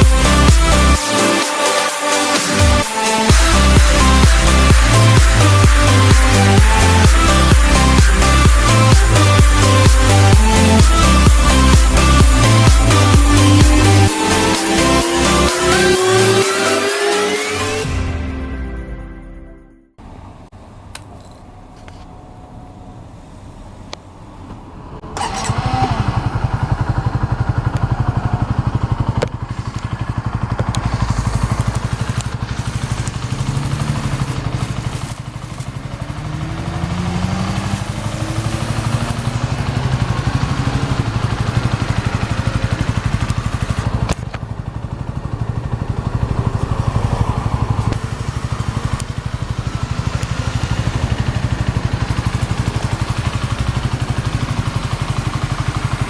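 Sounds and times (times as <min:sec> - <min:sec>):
motorcycle engine idling: 0:00.0 - 0:16.7, 0:20.0 - 0:56.0
motorcycle engine starting: 0:00.0 - 0:18.6, 0:20.0 - 0:56.0.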